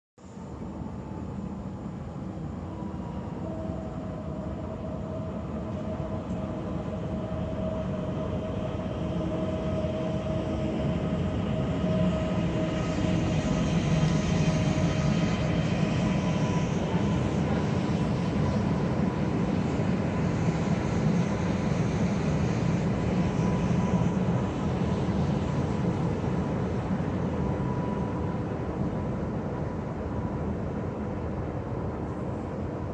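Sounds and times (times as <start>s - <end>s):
train motor whine: 0.4s - 30.6s
train wheels rumbling on rails: 0.6s - 32.9s.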